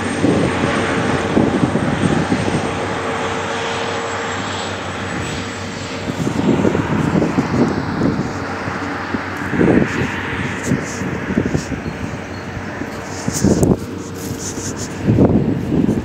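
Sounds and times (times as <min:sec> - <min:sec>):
high whine: 0:00.0 - 0:16.0
vehicle engines driving by: 0:00.0 - 0:16.0.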